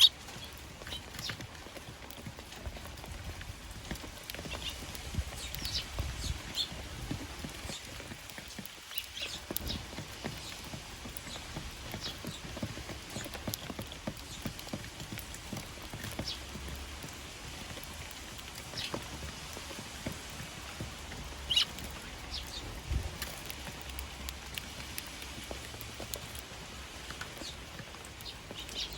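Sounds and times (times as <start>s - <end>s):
sparrows chirping: 0.0s - 2.9s, 3.8s - 16.9s, 17.5s - 19.3s, 20.3s - 28.9s
rain dripping and tapping: 0.0s - 28.9s.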